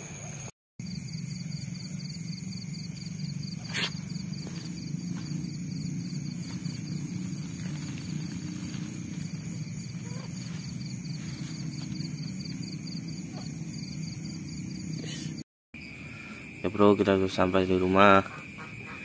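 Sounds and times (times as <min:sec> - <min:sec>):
low insect din: 0:00.0 - 0:17.6
high-pitched insect tones: 0:00.0 - 0:19.0
insect pulsing trill: 0:00.0 - 0:19.0.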